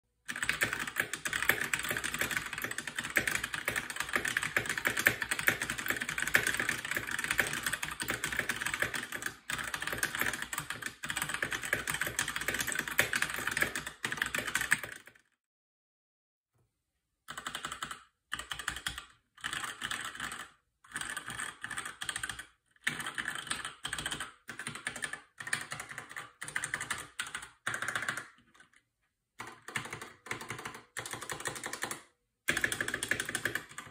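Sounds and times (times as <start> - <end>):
mechanical keyboard typing: 0.3 - 15.2, 17.3 - 28.8, 29.4 - 33.9.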